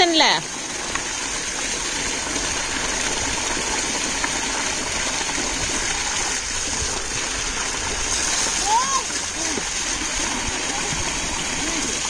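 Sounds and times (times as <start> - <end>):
water gushing from pipe: 0.0 - 12.0.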